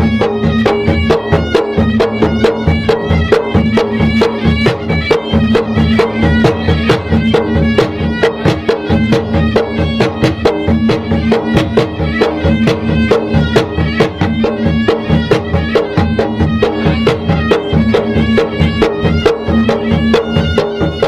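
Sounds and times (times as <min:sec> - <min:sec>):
drums beating fast rhythm: 0:00.0 - 0:21.0
reedy wind instrument melody: 0:00.0 - 0:21.0.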